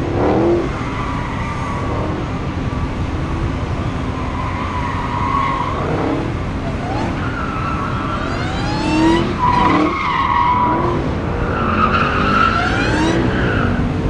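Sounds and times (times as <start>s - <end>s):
car engines revving: 0.0s - 14.0s
cars driving past: 0.0s - 14.0s.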